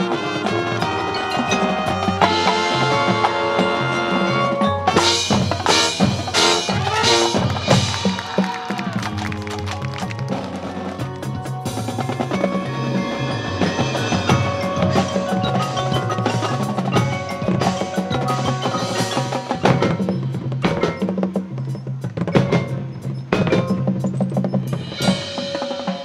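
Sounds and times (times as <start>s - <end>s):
marching band playing: 0.0s - 26.0s
drum strikes: 4.8s - 26.0s.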